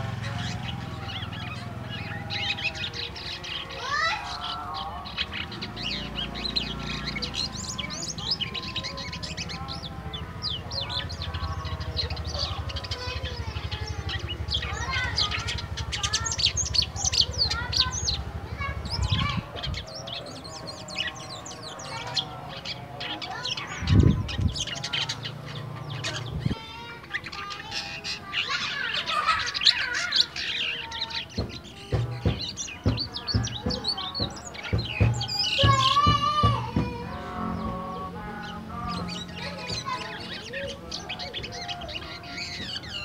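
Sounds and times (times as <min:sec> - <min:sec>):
starling singing: 0:00.0 - 0:43.0.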